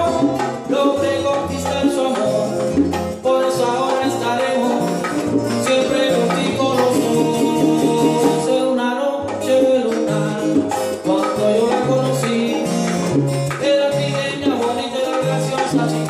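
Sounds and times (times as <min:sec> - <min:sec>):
bongos: 0:00.0 - 0:16.0
guitars playing: 0:00.0 - 0:16.0
person singing: 0:00.0 - 0:16.0.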